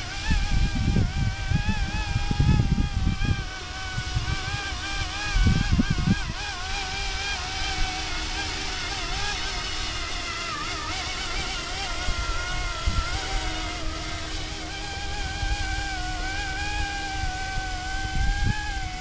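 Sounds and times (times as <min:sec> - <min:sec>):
rc helicopter whining: 0:00.0 - 0:19.0
wind buffeting microphone: 0:00.0 - 0:19.0.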